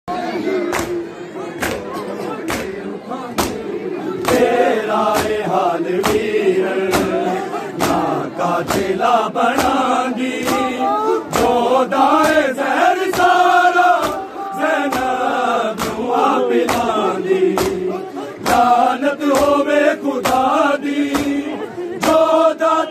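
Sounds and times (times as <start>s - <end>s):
men chanting in unison: 0.2s - 22.9s.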